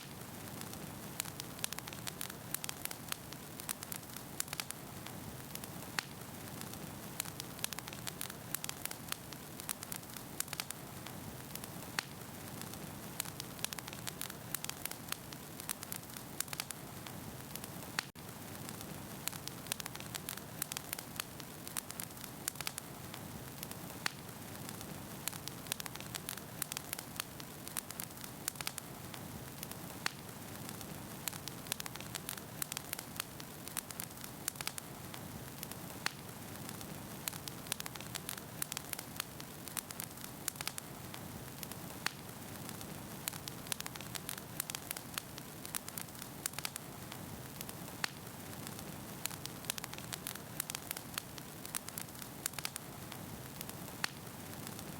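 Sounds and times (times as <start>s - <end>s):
logs crackling and popping: 0.0s - 54.9s.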